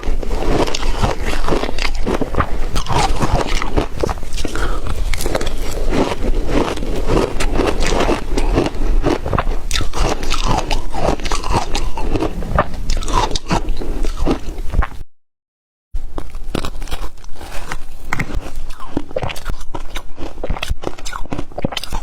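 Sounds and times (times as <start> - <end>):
chewing crunchy ice: 0.0 - 15.0, 16.0 - 22.0.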